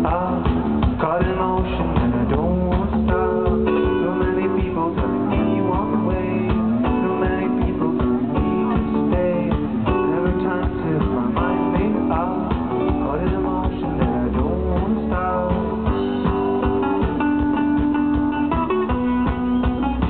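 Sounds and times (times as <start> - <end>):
bass guitar: 0.0 - 20.0
electric guitar: 0.0 - 20.0
keyboard: 0.0 - 20.0
steady drum beat: 0.0 - 20.0.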